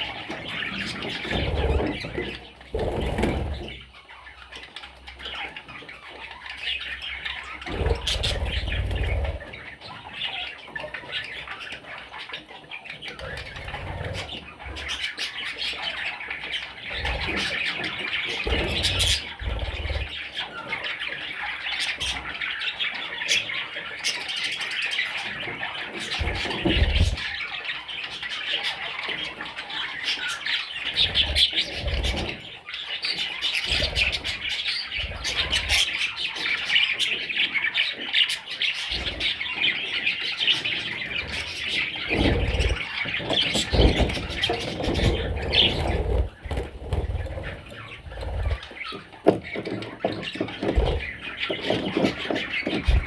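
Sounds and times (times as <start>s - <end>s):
budgerigars chattering: 0.0s - 53.0s.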